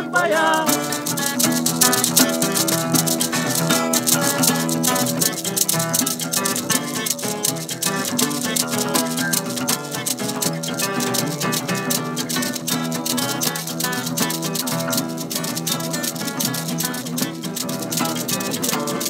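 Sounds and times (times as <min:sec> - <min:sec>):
acoustic guitars strummed: 0:00.0 - 0:19.0
tube shaker rattling: 0:00.0 - 0:19.0.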